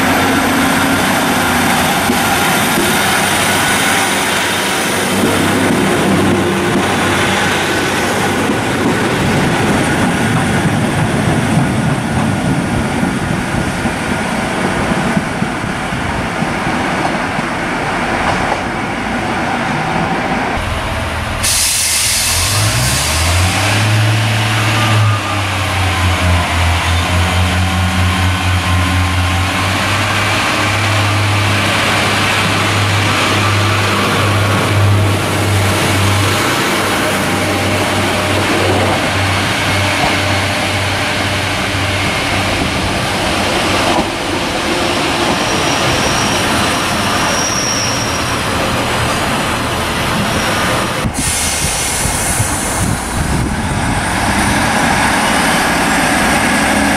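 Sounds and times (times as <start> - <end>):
diesel engine drone: 0.0 - 14.9, 17.6 - 47.5, 48.2 - 56.9
train cars rolling past: 0.0 - 56.9.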